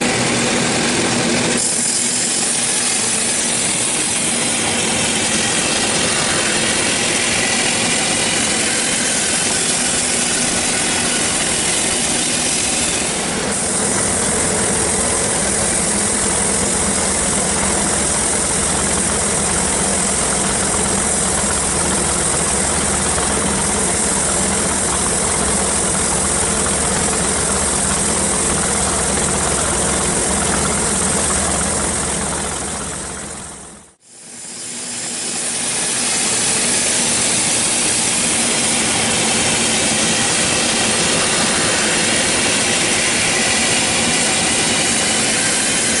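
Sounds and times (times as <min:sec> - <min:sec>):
sawmill machinery running: 0:00.0 - 0:46.0.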